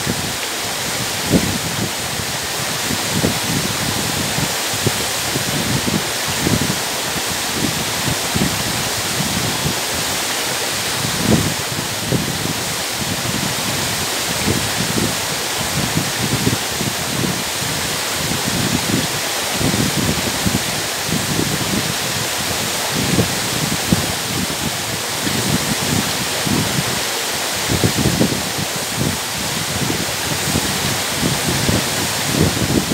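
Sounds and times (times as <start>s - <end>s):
waterfall crashing onto boulders: 0.0s - 32.9s.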